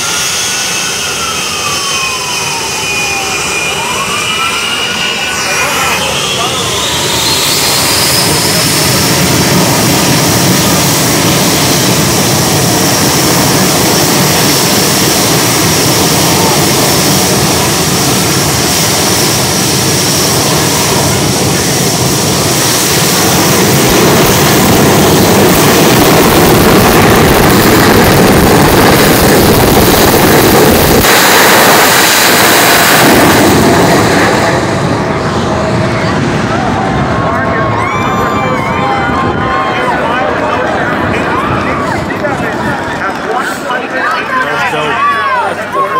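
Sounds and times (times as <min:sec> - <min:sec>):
high jet whine: 0:00.0 - 0:45.9
jet engine afterburner roar: 0:00.0 - 0:45.9.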